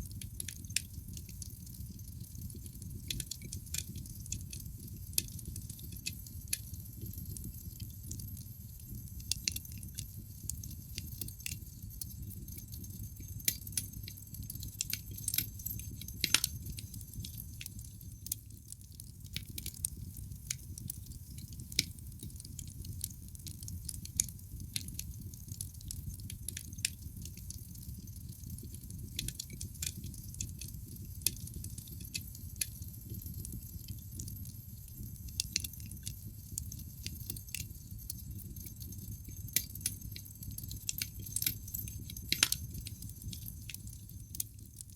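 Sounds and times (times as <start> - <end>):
low rumble of flames: 0.0 - 44.9
logs crackling and popping: 0.5 - 44.9.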